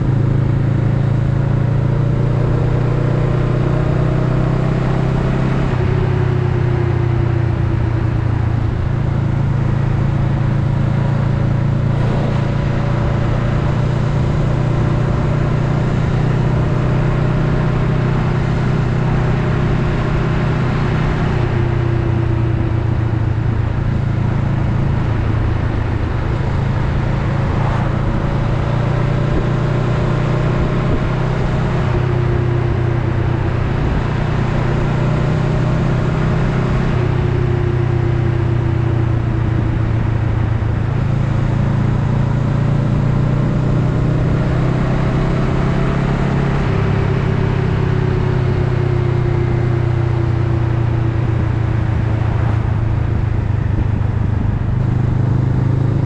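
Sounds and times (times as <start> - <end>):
wind and road noise: 0.0 - 56.0
motorcycle engine running: 5.7 - 44.8, 46.4 - 56.0.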